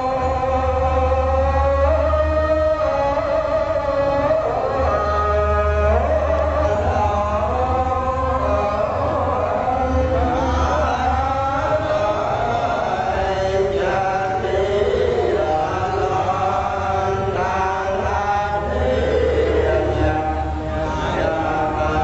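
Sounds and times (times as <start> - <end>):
group chanting together: 4.0 - 22.0.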